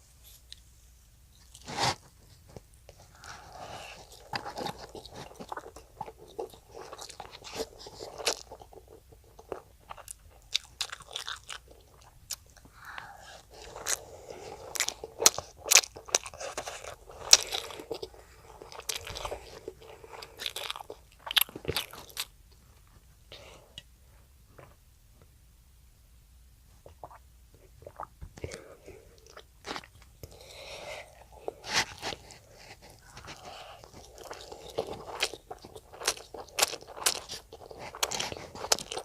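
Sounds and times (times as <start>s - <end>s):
child chewing food: 1.4s - 23.9s, 26.8s - 39.0s.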